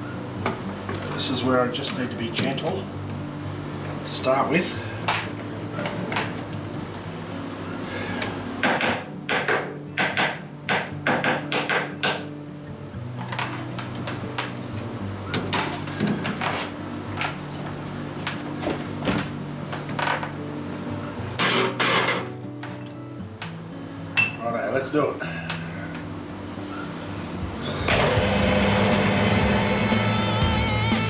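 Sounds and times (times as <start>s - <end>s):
low hum of shop machinery: 0.0s - 31.0s.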